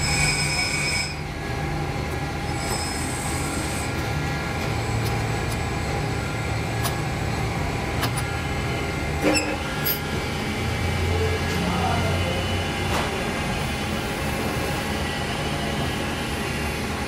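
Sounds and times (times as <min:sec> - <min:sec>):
lathe machinery humming: 0:00.0 - 0:17.0.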